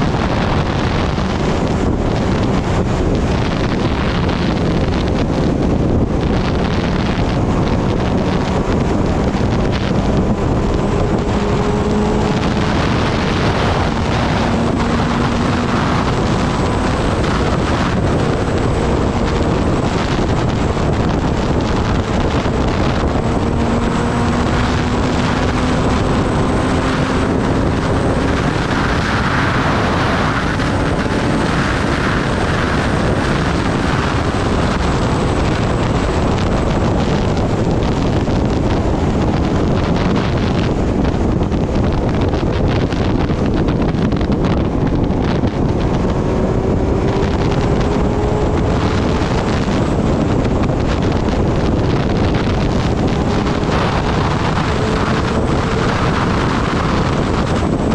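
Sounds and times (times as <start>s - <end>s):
motorcycle engine: 0.0s - 57.9s
wind rushing over microphone: 0.0s - 57.9s.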